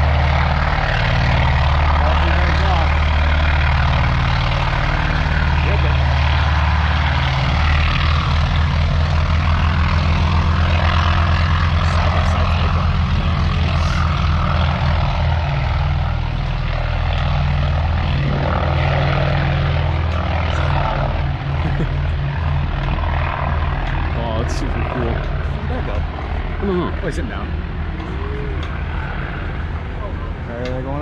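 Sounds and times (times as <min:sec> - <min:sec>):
propeller aircraft engine drone: 0:00.0 - 0:31.0.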